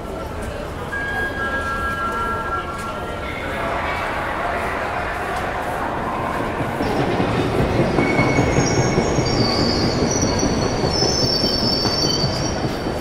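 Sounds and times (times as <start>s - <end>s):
low rumble of train: 0.0s - 13.0s
train brakes squealing: 0.8s - 13.0s.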